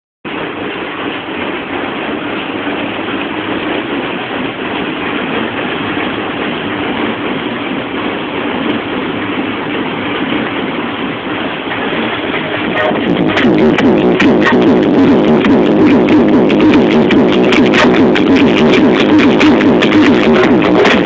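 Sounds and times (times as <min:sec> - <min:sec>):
car running rushing noise: 0:00.3 - 0:21.0.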